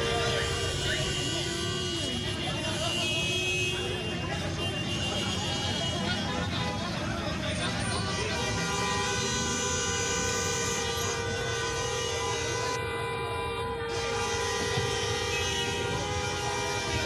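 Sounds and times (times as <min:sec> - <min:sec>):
low traffic rumble: 0:00.0 - 0:17.0.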